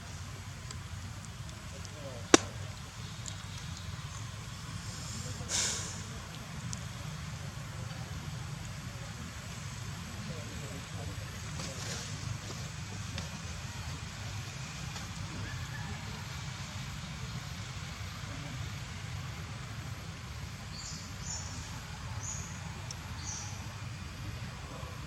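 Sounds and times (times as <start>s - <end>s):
low rumble with hiss: 0.0s - 25.0s.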